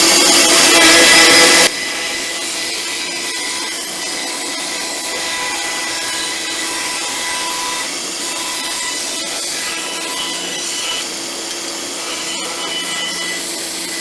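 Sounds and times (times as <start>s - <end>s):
woodworking power tool running: 0.0s - 14.0s.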